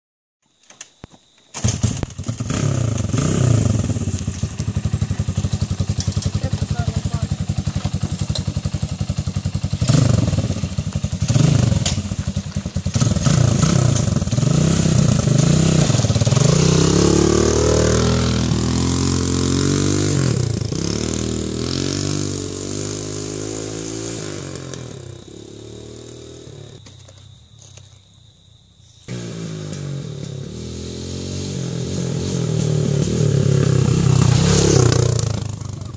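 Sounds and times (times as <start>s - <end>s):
dirt bike engine revving: 1.6s - 26.8s, 29.1s - 35.9s.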